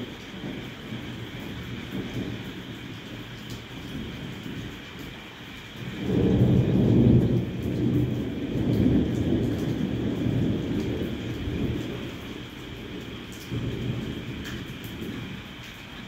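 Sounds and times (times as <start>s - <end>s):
thunder rolling: 0.0s - 4.7s, 5.8s - 15.4s
heavy rain hissing: 0.0s - 16.0s.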